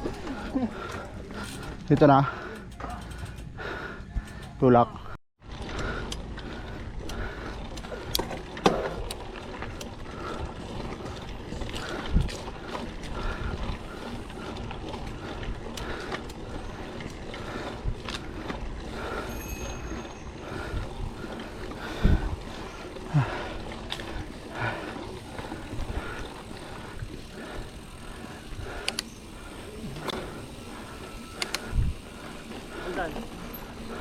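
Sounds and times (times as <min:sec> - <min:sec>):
bicycle freehub clicking: 0:00.0 - 0:34.0.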